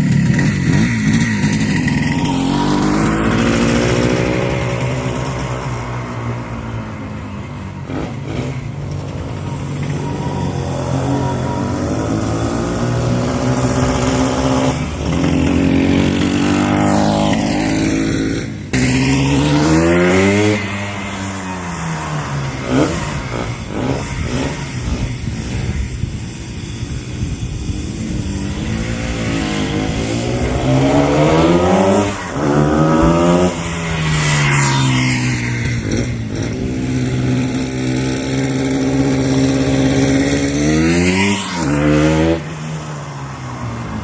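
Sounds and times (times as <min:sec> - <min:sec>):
two-stroke engine revving: 0:00.0 - 0:44.0.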